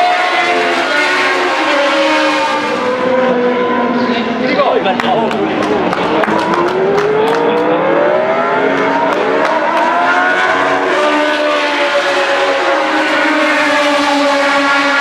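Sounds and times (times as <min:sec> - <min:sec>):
racing cars accelerating past: 0:00.0 - 0:15.0.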